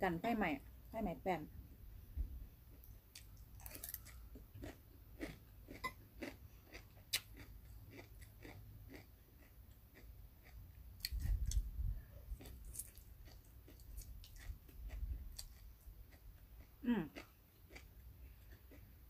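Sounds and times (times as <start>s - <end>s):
person chewing food: 2.7s - 19.0s.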